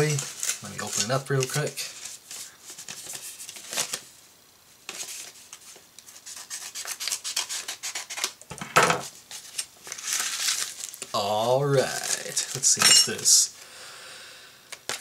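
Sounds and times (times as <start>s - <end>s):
paper packaging rustling: 0.0s - 4.1s, 4.8s - 8.4s, 9.0s - 13.5s.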